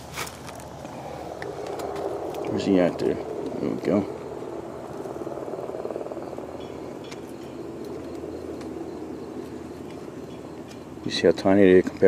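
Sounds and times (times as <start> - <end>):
kitten purring: 0.6 - 11.4.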